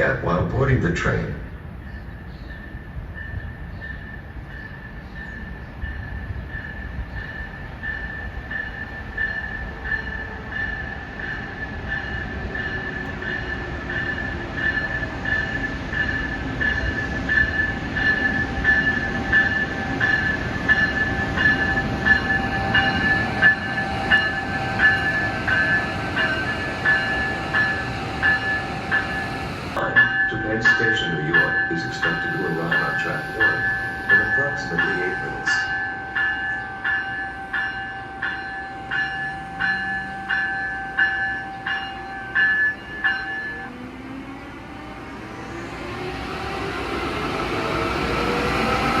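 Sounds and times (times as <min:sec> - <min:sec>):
train high whine: 0:00.0 - 0:49.0.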